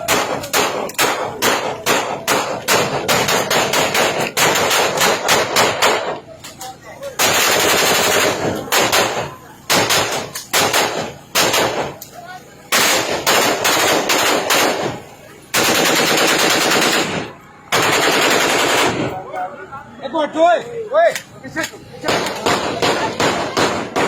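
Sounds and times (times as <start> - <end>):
automatic gunfire bursts: 0.0 - 6.2, 7.2 - 12.0, 12.7 - 19.2, 22.0 - 24.0.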